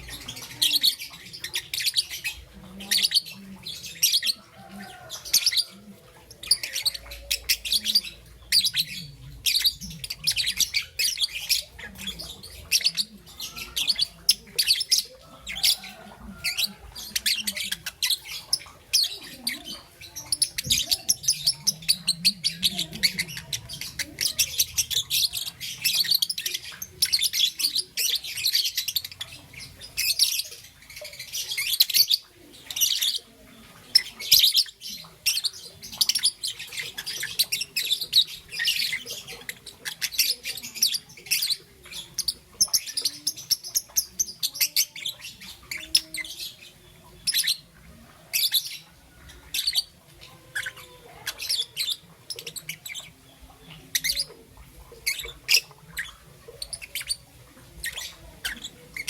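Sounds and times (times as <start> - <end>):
lovebird chirping: 0.0 - 59.0.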